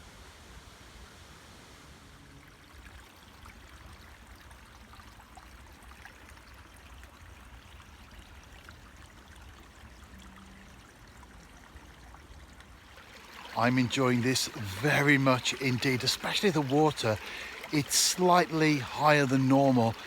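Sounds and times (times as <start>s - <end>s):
brook running: 2.4s - 20.0s.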